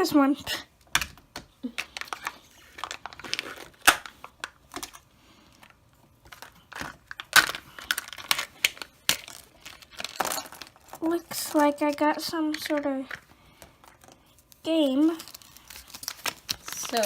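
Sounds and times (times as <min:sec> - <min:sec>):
plastic and foil wrapping crinkling: 0:01.6 - 0:17.0.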